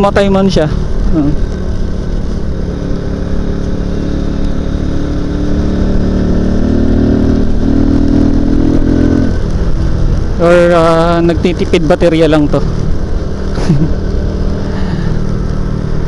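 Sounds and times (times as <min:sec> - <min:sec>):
motorcycle engine running: 0:00.0 - 0:16.0
road rumble: 0:00.0 - 0:16.0.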